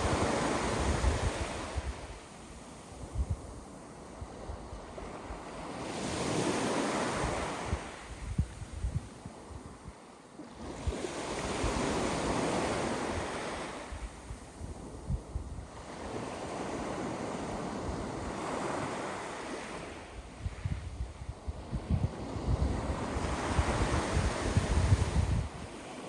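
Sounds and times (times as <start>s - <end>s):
sea waves washing on a beach: 0.0s - 26.0s
wind buffeting microphone: 0.0s - 26.0s.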